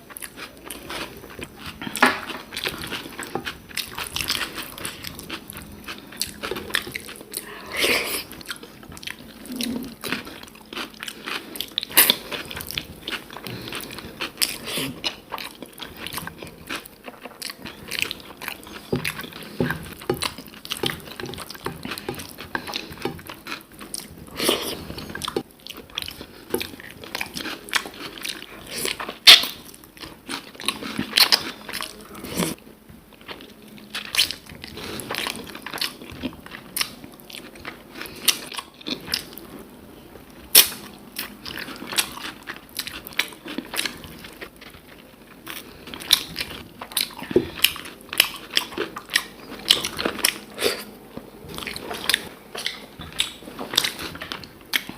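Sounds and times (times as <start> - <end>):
person chewing and crunching: 0.0 - 39.7, 40.3 - 54.9.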